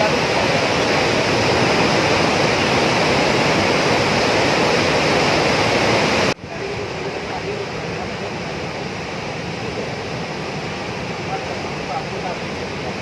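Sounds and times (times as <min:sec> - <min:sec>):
water rushing at a dam: 0:00.0 - 0:13.0.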